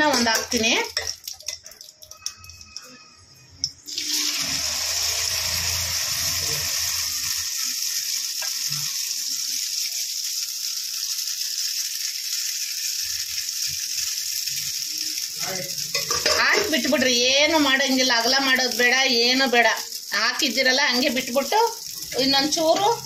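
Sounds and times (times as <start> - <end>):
batter sizzling in oil: 0.0 - 23.0.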